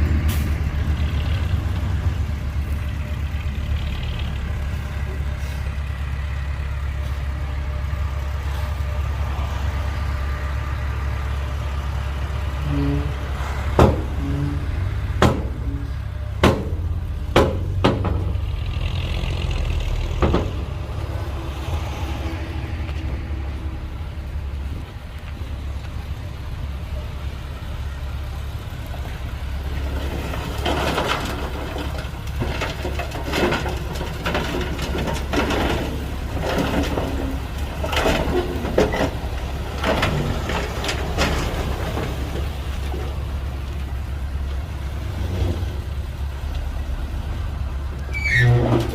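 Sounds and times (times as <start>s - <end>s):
heavy diesel machinery rumbling: 0.0s - 48.9s.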